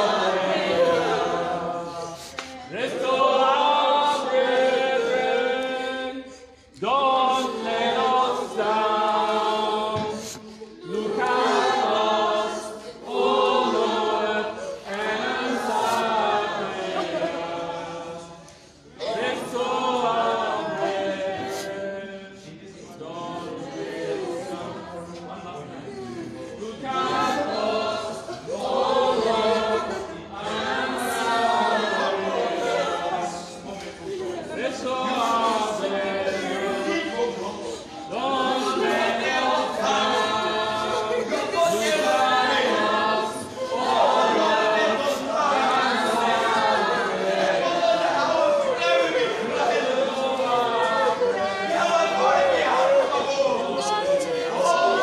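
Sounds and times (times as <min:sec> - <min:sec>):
congregation singing a chant: 0:00.0 - 0:55.0.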